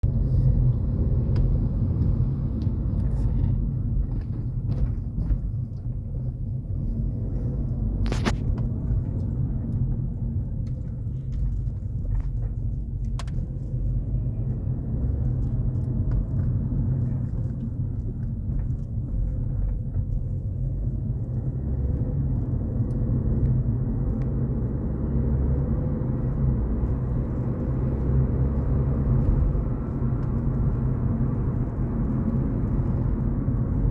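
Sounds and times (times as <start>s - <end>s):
car driving low rumble: 0.0s - 33.9s.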